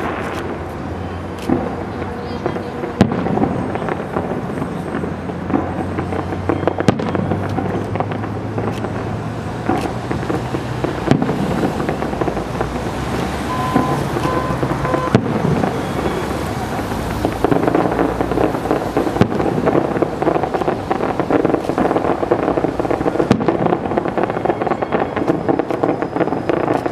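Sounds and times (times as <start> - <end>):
firework bangs: 0.0 - 26.9.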